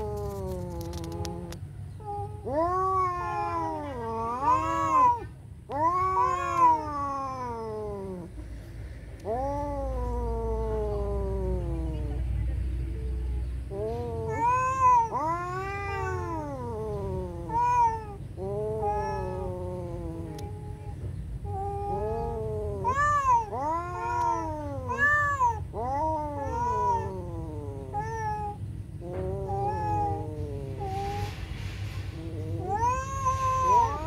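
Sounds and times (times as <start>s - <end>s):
cats yowling: 0.0s - 8.6s, 9.2s - 12.3s, 13.2s - 34.0s.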